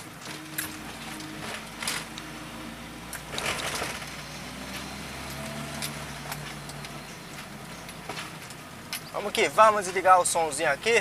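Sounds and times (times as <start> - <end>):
car engine at low revs: 0.0 - 9.6.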